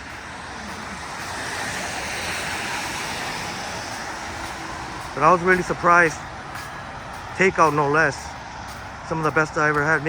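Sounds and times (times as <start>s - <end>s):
tyres hissing on wet road: 0.0s - 10.0s.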